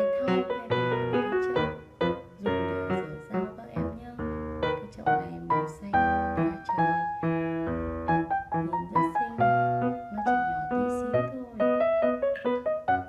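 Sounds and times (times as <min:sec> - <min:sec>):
light piano melody: 0:00.0 - 0:13.0.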